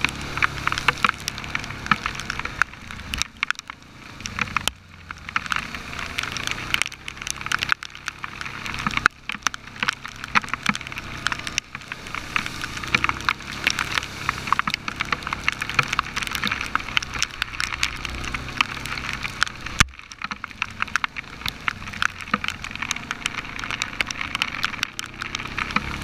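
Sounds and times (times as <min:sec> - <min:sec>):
atv engine drone: 0:00.0 - 0:26.0
heavy rain on camera housing: 0:00.0 - 0:26.0.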